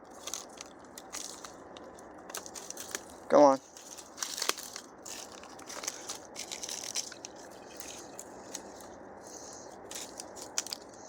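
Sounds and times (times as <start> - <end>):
footsteps crunching dry leaves: 0.0 - 10.9.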